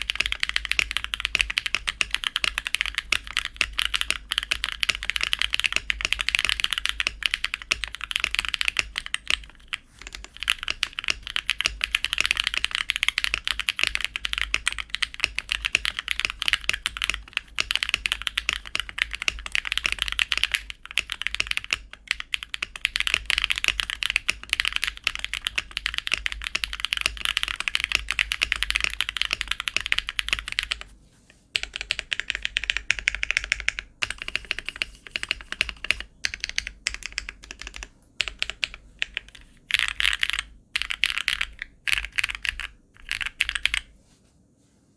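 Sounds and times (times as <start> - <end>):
fast typing on mechanical keyboard: 0.0 - 30.9, 31.6 - 43.9.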